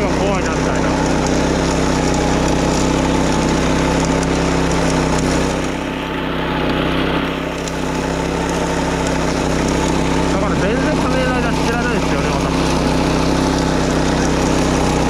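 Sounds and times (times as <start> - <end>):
grass mower engine running: 0.0 - 15.0.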